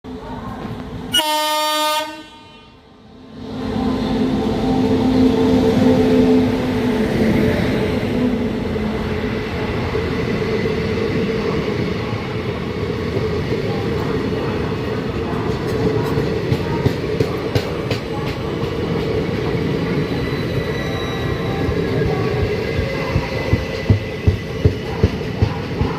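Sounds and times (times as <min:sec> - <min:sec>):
train rumbling on track: 0:00.1 - 0:25.9.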